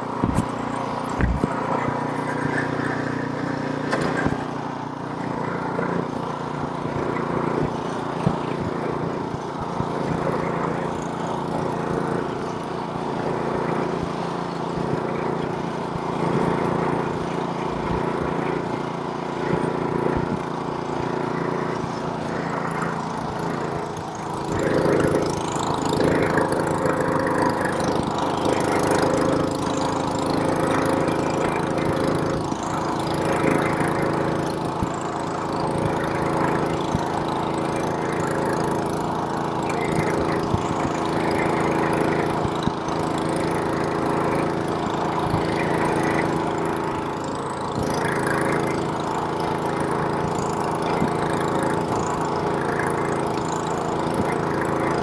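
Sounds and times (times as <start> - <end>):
snowblower engine running: 0.0 - 55.0.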